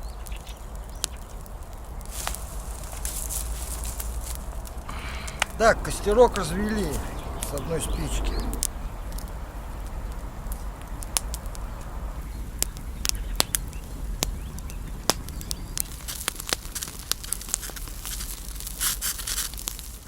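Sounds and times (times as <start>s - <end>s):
campfire crackling and popping: 0.0s - 20.0s
fire hissing: 0.0s - 20.0s.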